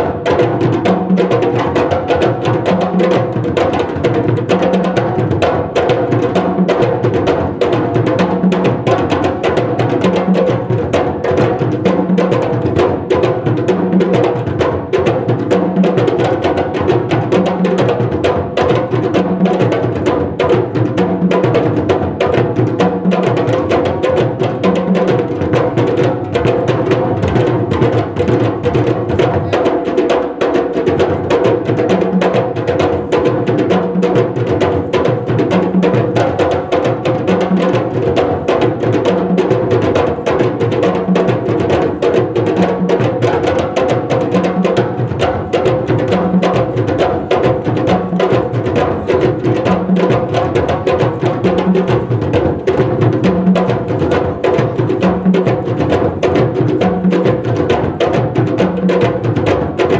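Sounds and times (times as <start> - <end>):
hand drums playing fast rhythm: 0.0 - 59.9.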